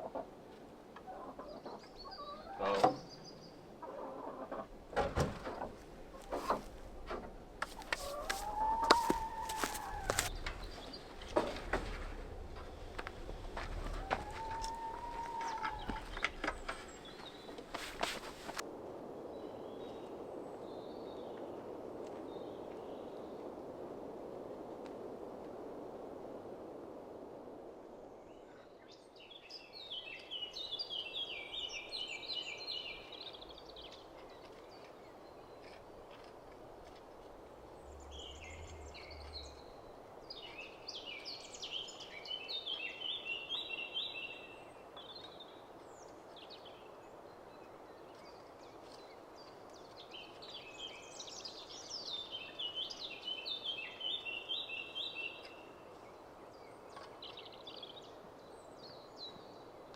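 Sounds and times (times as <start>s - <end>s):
songbird singing: 0.0s - 18.6s, 28.2s - 59.9s.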